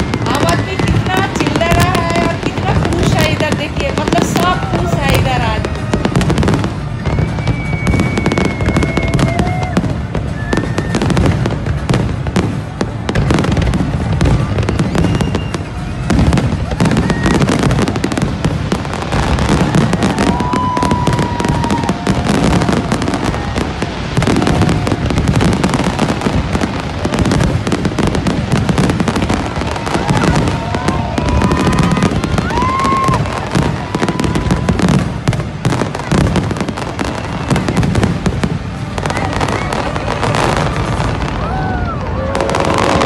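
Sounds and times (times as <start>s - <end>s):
fireworks crackling and banging: 0.0s - 43.0s
fireworks whistling: 0.0s - 43.0s.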